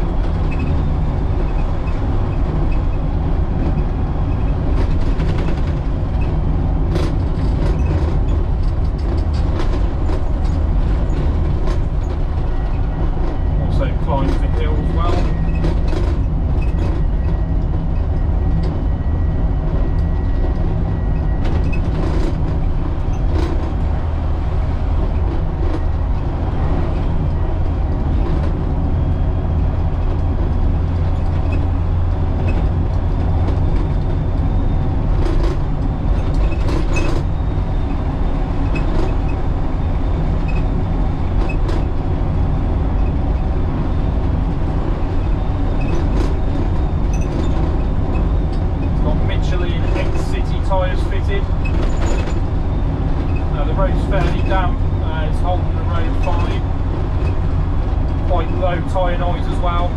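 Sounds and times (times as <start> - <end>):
diesel bus engine rumbling: 0.0 - 59.9.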